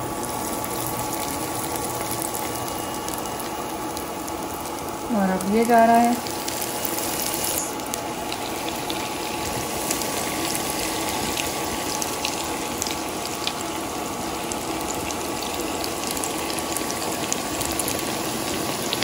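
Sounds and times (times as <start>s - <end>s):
deep-frying sizzle and pops: 0.0s - 19.0s.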